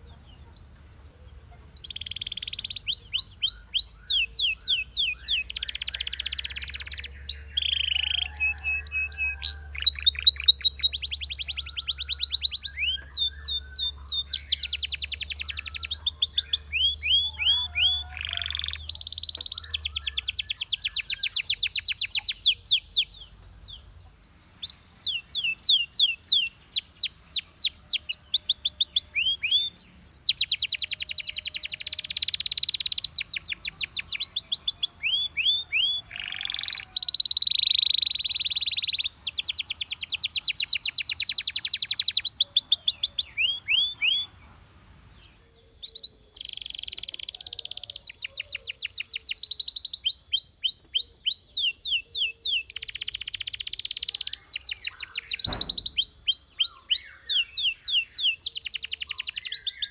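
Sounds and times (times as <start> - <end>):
canary singing fast trills: 0.0 - 59.9.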